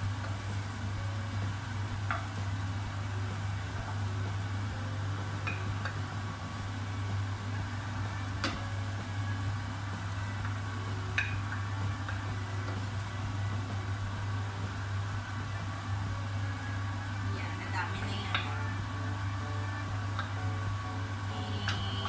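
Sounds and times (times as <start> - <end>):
steady low hum with hiss: 0.0 - 22.0.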